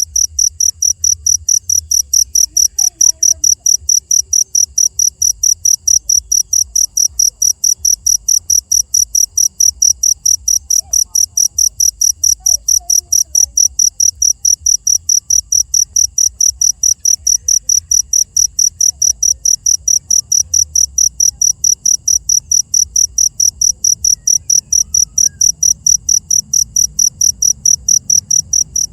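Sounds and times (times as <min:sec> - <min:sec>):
cricket chirping: 0:00.0 - 0:28.9.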